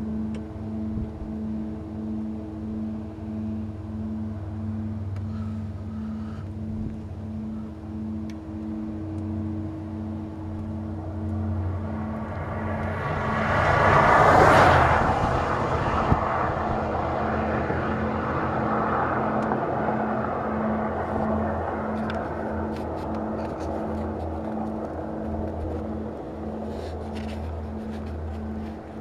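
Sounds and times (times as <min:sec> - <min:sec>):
car passing: 0:00.0 - 0:29.0
pulsing low engine hum: 0:00.0 - 0:29.0.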